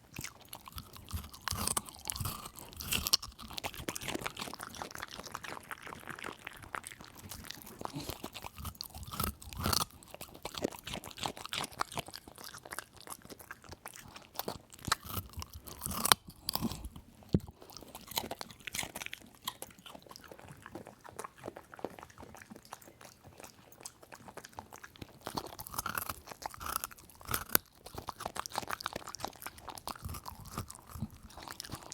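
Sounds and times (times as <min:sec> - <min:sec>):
dog crunching a carrot: 0:00.0 - 0:31.9.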